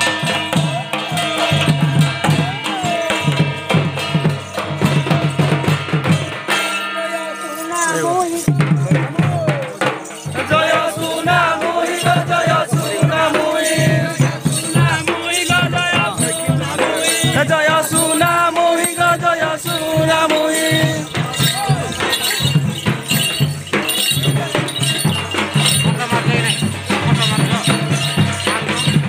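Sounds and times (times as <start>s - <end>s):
drum beats: 0.0s - 29.0s
rattling percussion: 0.0s - 29.0s.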